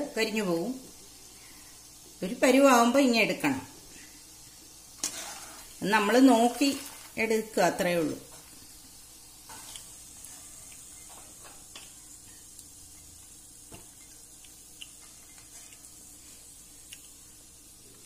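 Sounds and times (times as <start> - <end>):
peanuts sizzling in oil: 0.0 - 18.0.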